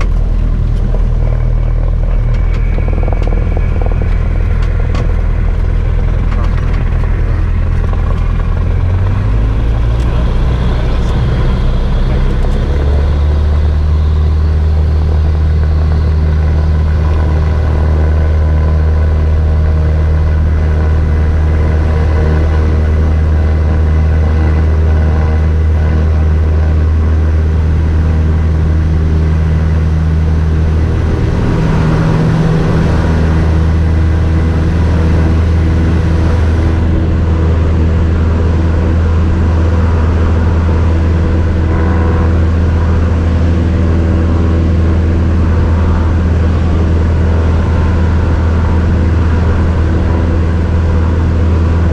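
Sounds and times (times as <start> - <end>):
propeller plane engine drone: 0.0 - 51.9.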